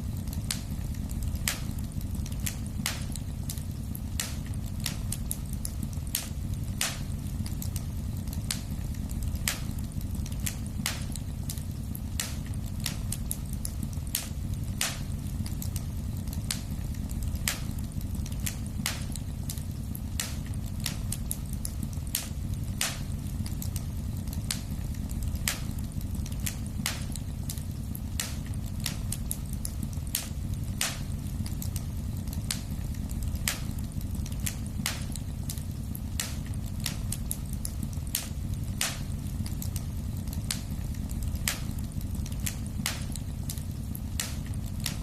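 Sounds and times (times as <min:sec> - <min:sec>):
burning wood crackling and popping: 0:00.0 - 0:45.0
low rumble of flames: 0:00.0 - 0:45.0.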